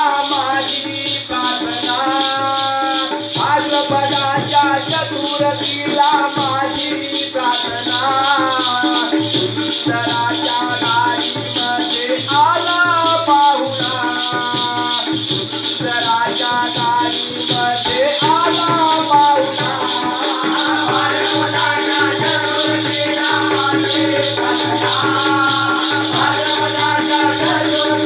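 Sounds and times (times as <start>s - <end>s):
held accompanying tones: 0.0s - 28.0s
jingling shaker beat: 0.0s - 28.0s
person singing: 0.0s - 28.0s.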